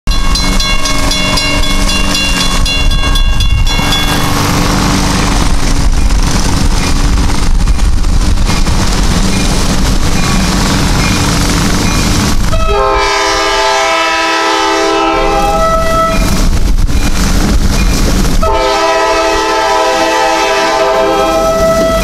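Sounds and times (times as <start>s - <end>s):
wheels rumbling on rail: 0.0s - 22.0s
crossing warning bell ringing: 0.1s - 5.0s, 8.5s - 17.2s, 17.8s - 22.0s
diesel locomotive engines running: 0.1s - 22.0s.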